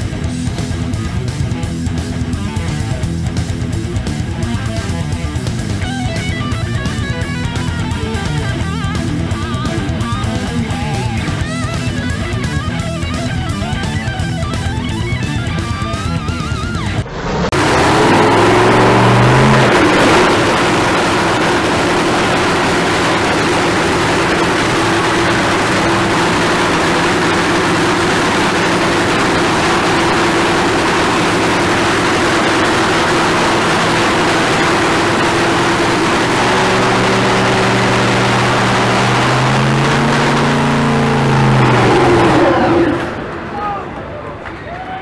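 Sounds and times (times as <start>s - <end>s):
drag racing car engine revving: 0.0s - 43.5s.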